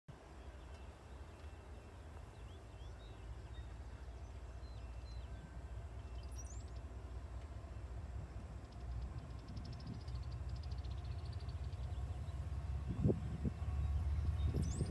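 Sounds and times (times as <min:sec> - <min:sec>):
birds chirping: 0:00.2 - 0:08.0, 0:08.6 - 0:14.9
steady low rumble: 0:00.2 - 0:14.9.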